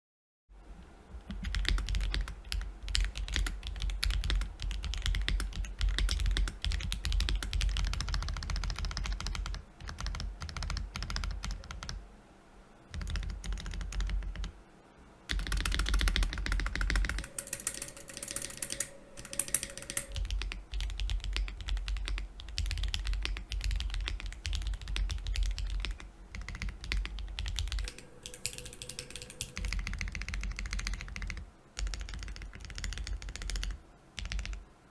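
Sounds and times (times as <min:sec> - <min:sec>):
mechanical keyboard typing: 0:01.2 - 0:12.0, 0:12.9 - 0:14.5, 0:15.3 - 0:34.6.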